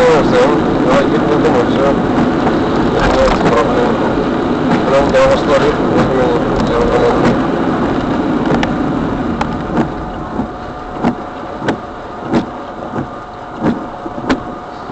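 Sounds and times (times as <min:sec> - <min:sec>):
car noise: 0:00.0 - 0:14.9.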